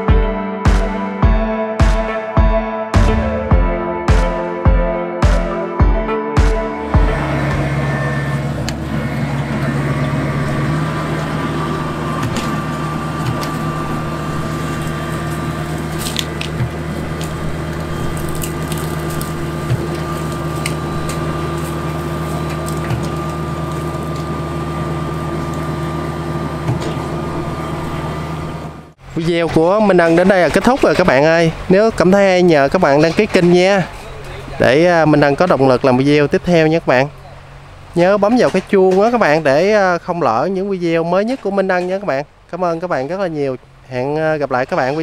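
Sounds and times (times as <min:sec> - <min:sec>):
combine harvester engine running: 0:06.4 - 0:45.0.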